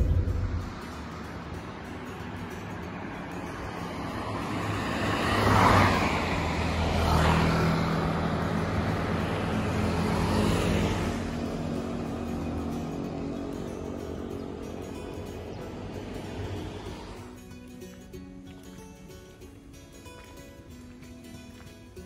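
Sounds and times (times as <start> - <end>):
motor scooter passing close: 0.0 - 18.2
road traffic passing: 0.0 - 22.0.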